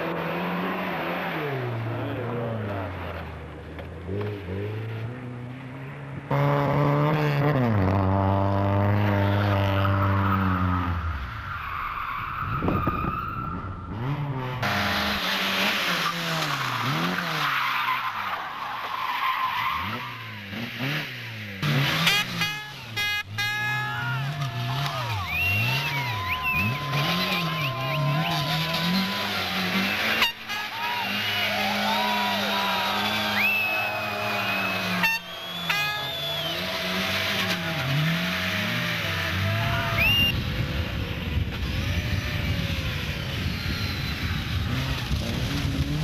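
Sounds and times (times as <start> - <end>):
rally car engines revving: 0.0 - 46.0
tyres skidding: 0.0 - 46.0.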